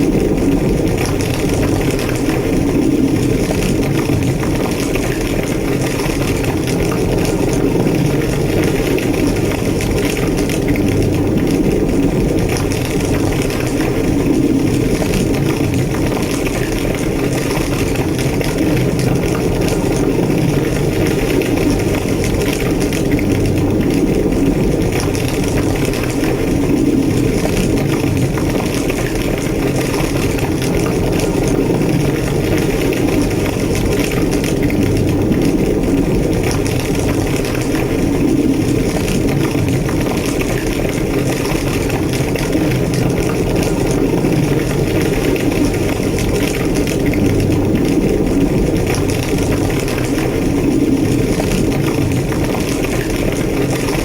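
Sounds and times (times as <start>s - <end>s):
fire crackling: 0.0s - 54.0s
flames roaring: 0.0s - 54.0s.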